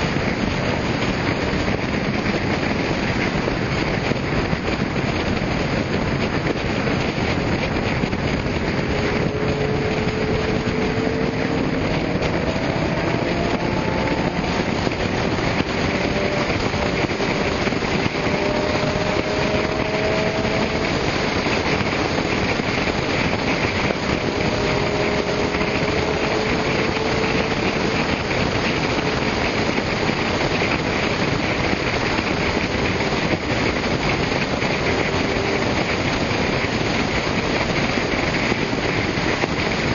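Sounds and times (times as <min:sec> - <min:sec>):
car engines accelerating: 0:00.0 - 0:39.9
road and wind noise: 0:00.0 - 0:39.9.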